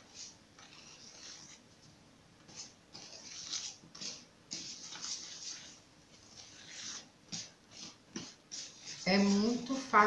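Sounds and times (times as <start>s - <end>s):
spatula scraping batter in bowl: 0.0s - 1.8s, 2.4s - 10.0s.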